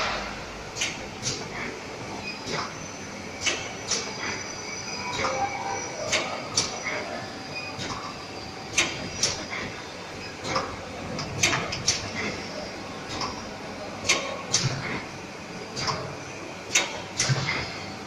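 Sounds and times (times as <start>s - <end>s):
machinery hum with high whine: 0.0s - 18.0s.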